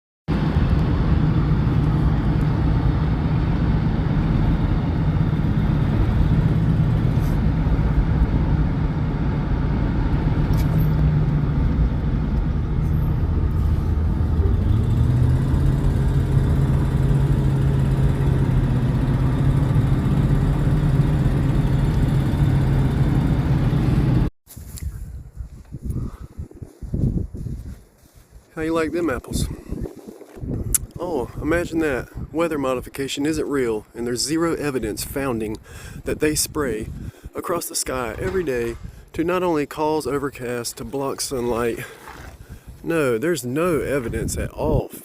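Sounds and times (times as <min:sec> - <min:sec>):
propeller airplane engine drone: 0:00.3 - 0:24.3, 0:25.7 - 0:42.8.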